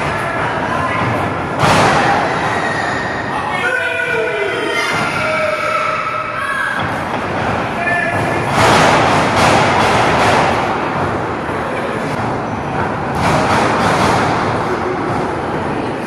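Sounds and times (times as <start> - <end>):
crowd yelling and cheering: 0.0 - 16.0.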